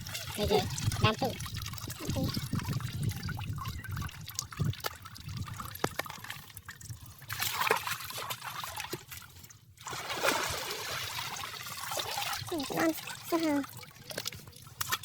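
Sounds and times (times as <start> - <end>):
shallow water trickling and splashing: 0.0 - 15.0.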